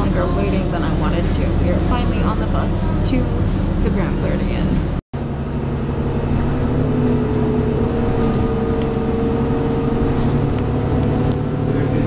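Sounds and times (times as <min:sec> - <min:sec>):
bus engine and road noise: 0:00.0 - 0:12.0
steady whine: 0:00.0 - 0:12.0.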